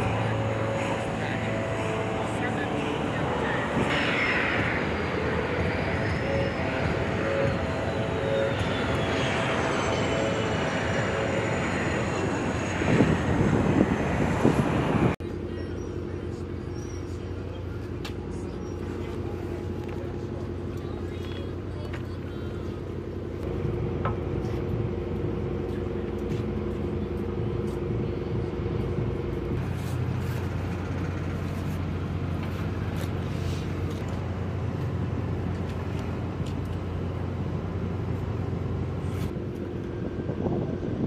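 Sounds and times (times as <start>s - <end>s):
engine hum: 0.0s - 41.0s.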